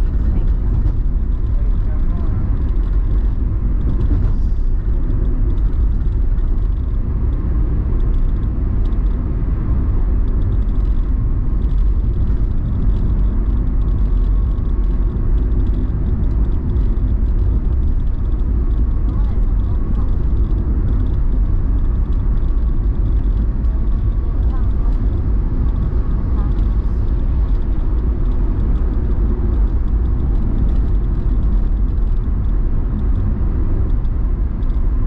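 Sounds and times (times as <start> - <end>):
car driving through tunnel: 0.0 - 35.0.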